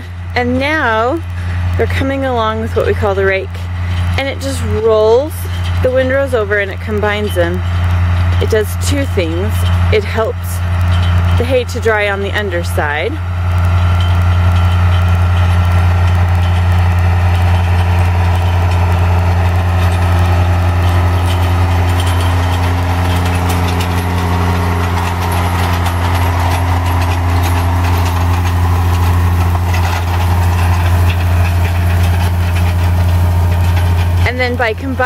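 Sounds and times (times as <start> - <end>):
engine humming steadily: 0.0 - 35.0.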